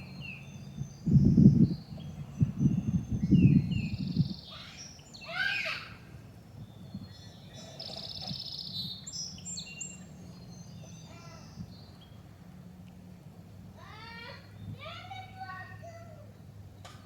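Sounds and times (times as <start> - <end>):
small birds chirping: 0.0 - 13.1, 14.0 - 17.0.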